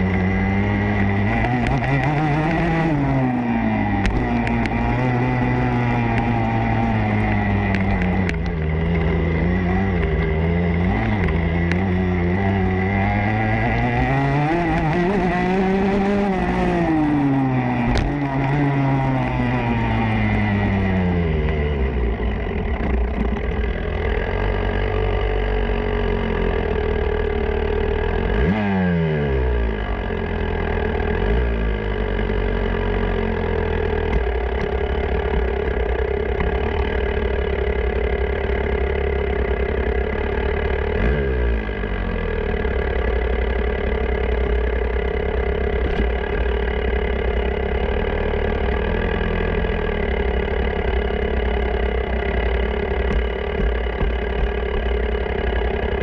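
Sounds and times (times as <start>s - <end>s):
motocross bike engine: 0.0s - 56.0s.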